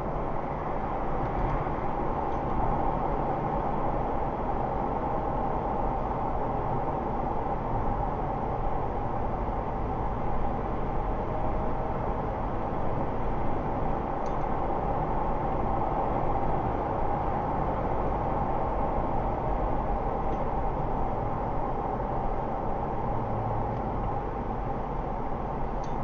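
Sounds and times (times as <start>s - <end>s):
car engine and tyre road noise: 0.0s - 26.0s.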